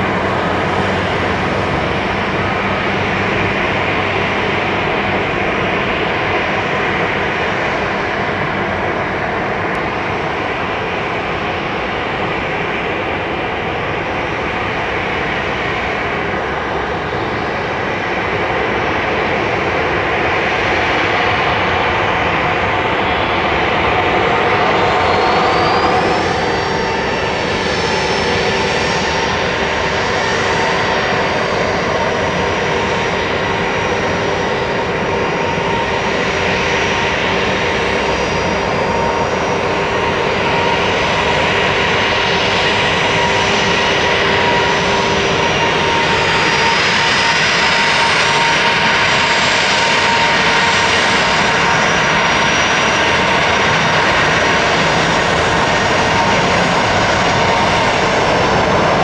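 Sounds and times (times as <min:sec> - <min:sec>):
high engine whine: 0:00.0 - 0:59.0
jet engines roaring at take-off: 0:00.0 - 0:59.0.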